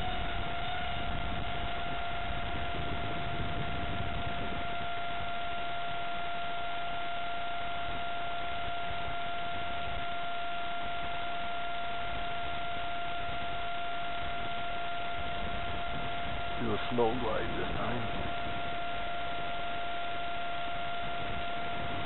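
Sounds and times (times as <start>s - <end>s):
electric fan whine: 0.0s - 22.0s.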